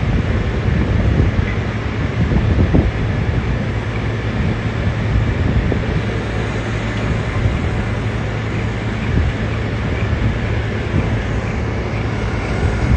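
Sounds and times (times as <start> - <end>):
street traffic noise: 0.0 - 12.9.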